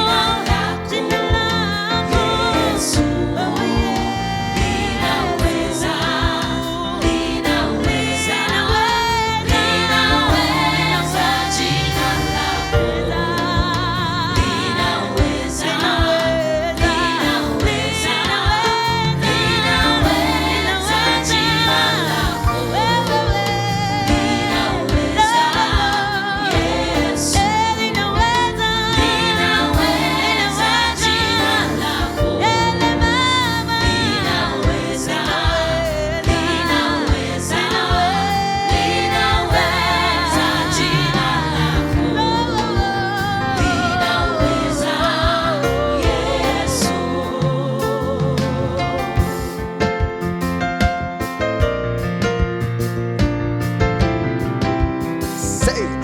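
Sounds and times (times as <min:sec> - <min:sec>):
gospel choir singing: 0:00.0 - 0:51.5, 0:54.1 - 0:56.0
band accompaniment: 0:00.0 - 0:56.0
drums: 0:00.0 - 0:56.0.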